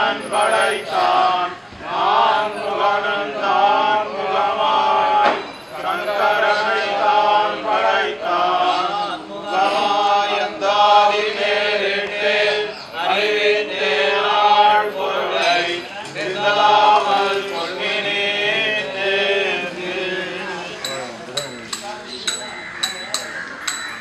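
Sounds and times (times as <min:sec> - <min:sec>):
men chanting a hymn in unison: 0:00.0 - 0:21.8.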